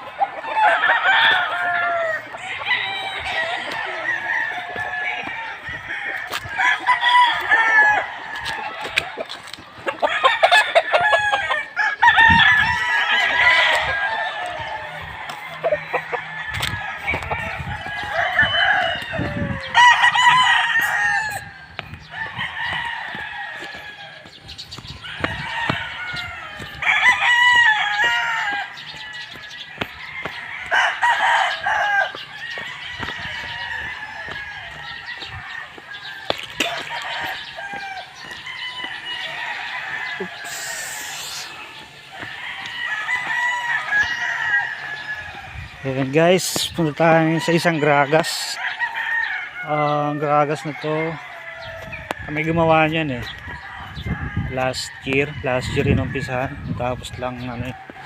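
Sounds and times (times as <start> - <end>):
roosters clucking: 0.0 - 58.0
roosters crowing: 0.0 - 58.0.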